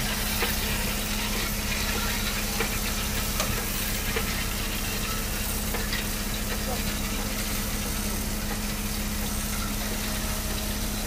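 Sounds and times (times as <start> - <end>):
fire truck engine running: 0.0 - 11.0.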